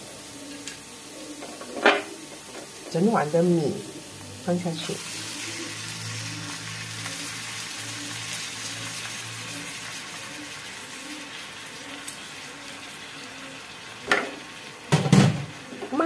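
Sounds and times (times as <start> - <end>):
rice sizzling in hot oil: 0.0 - 16.0.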